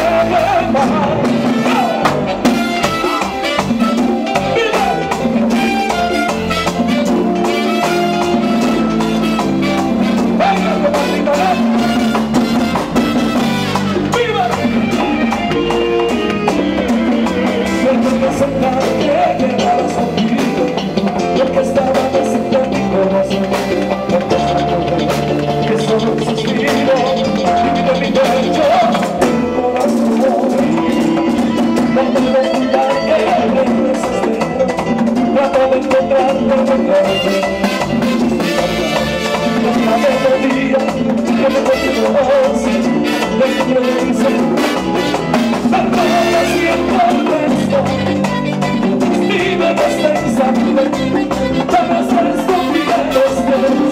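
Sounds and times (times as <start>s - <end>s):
latin dance band: 0.0s - 53.9s
man singing into microphone: 0.0s - 53.9s.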